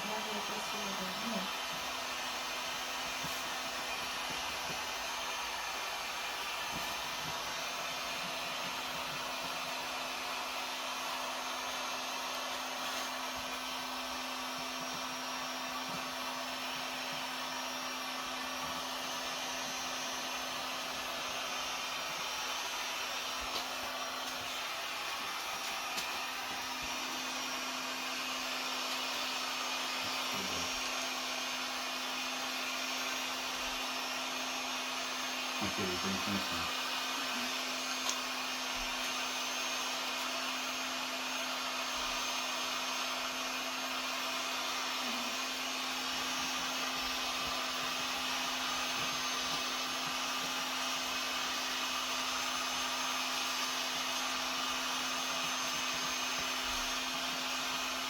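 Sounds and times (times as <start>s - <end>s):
heat gun blowing air: 0.0s - 58.0s.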